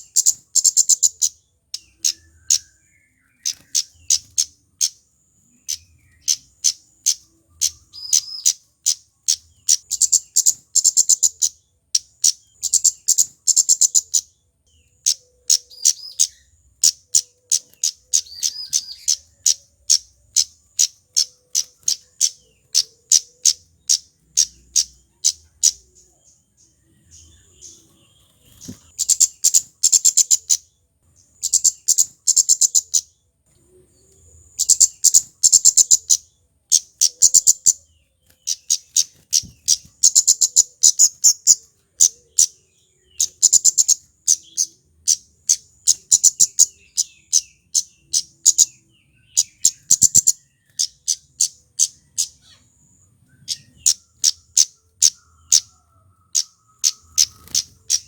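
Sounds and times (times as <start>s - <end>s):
bird high sharp chip calls: 0.0s - 26.3s, 27.1s - 33.2s, 34.5s - 58.0s.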